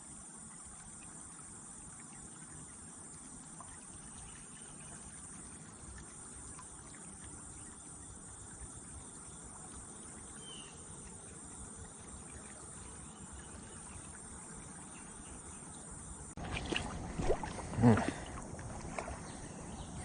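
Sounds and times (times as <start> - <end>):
insects chirring: 0.0 - 20.0
steady outdoor hiss: 0.0 - 20.0.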